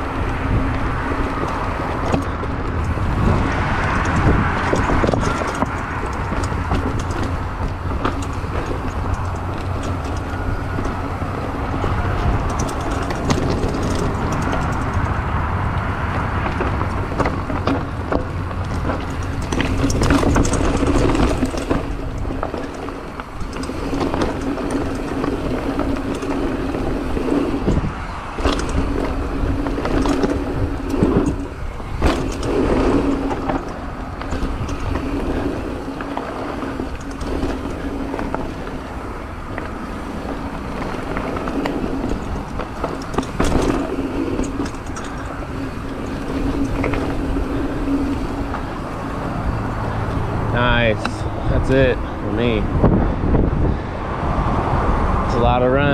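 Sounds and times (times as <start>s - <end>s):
tyres rumbling over stones: 0.0s - 53.5s
bike knocking and rattling: 0.0s - 55.9s
wind on microphone: 0.0s - 55.9s.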